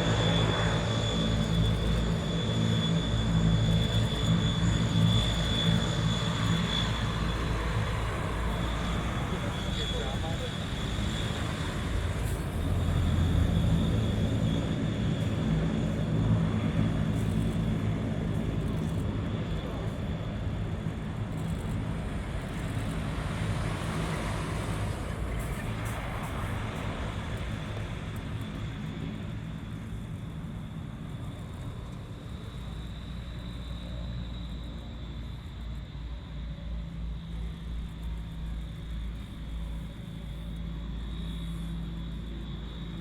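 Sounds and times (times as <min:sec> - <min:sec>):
turboprop engines droning: 0:00.0 - 0:43.0.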